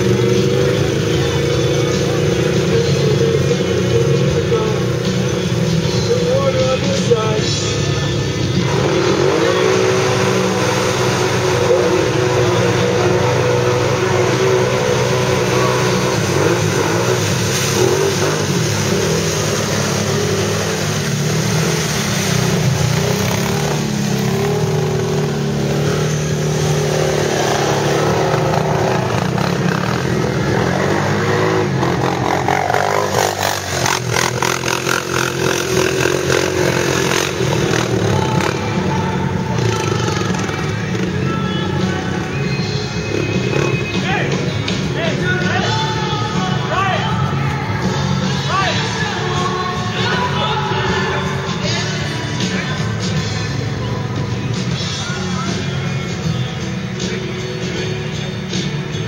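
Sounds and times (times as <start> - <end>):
atv engines revving: 0.0 - 59.0.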